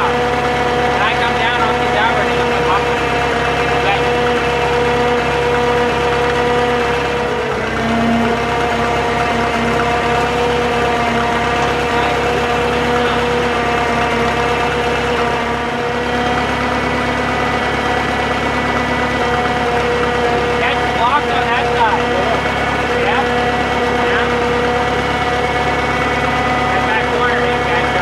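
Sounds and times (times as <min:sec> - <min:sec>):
crane engine running: 0:00.0 - 0:28.0.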